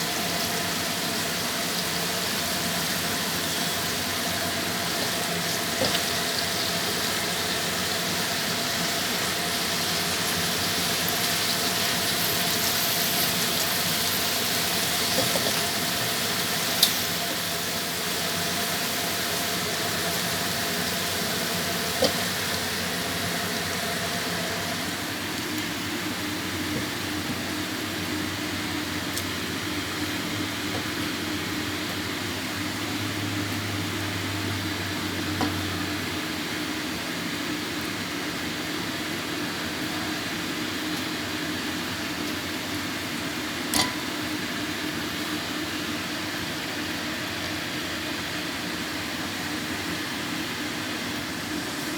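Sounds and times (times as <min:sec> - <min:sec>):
vegetables sizzling in a pan: 0:00.0 - 0:51.9.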